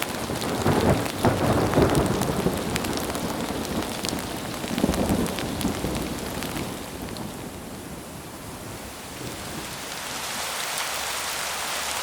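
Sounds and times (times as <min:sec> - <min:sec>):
thunder rumble: 0:00.0 - 0:09.7
steady rain: 0:00.0 - 0:12.0.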